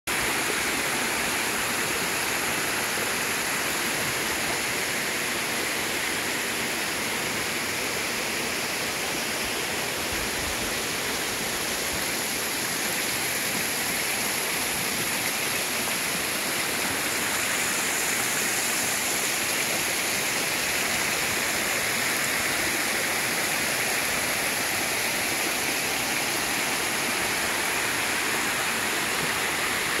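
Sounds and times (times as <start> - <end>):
small waterfall rushing: 0.1 - 30.0.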